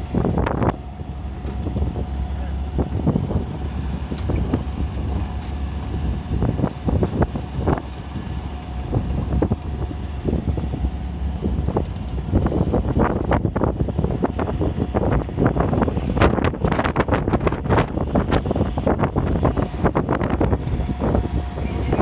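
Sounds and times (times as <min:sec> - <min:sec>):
vehicle low rumble: 0:00.0 - 0:22.0
wind buffeting microphone: 0:00.0 - 0:22.0.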